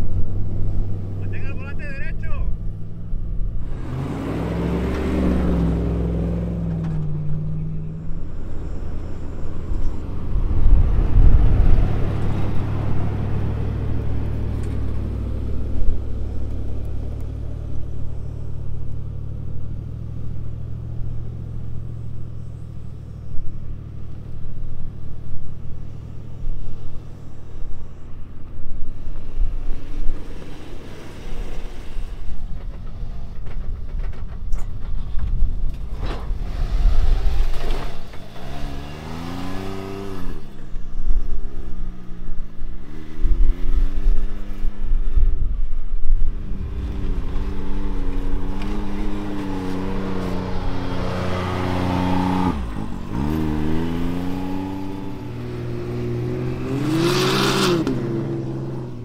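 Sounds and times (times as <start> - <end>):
car engines in sand: 0.0 - 59.0.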